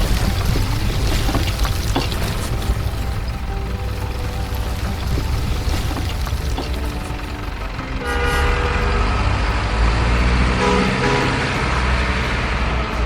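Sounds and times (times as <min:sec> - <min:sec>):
multi-tone vehicle horn: 0:00.0 - 0:13.0
steady low rumble: 0:00.0 - 0:13.0.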